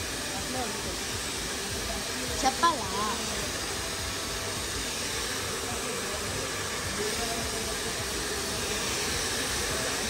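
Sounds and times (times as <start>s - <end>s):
faint voices: 0.0s - 10.0s
hair dryer running: 0.0s - 10.0s.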